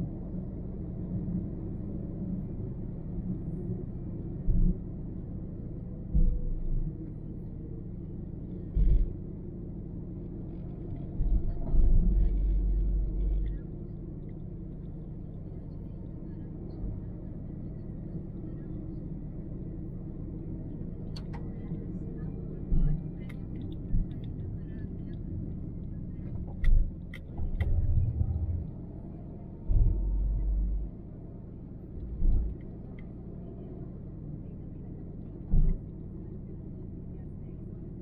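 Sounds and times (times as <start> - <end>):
car road rumble: 0.0 - 38.0.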